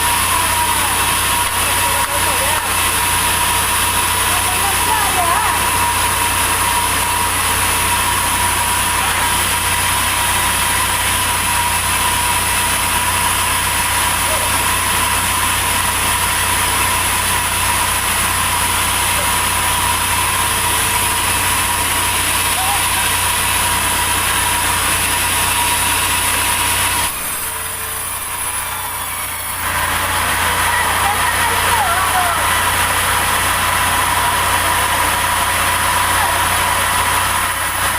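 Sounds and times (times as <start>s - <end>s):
sawmill machinery running: 0.0s - 37.9s.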